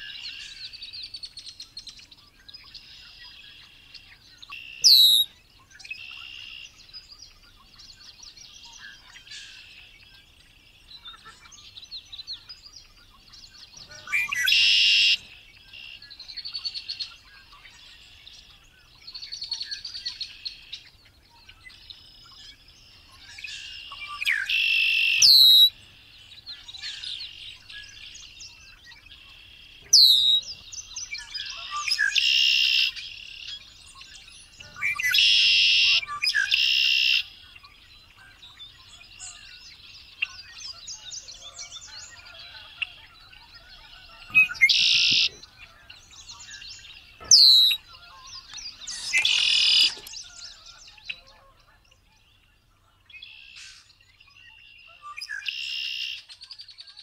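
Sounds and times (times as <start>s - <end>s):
birds twittering and chattering: 0.0s - 57.0s
blackbird singing: 0.0s - 57.0s.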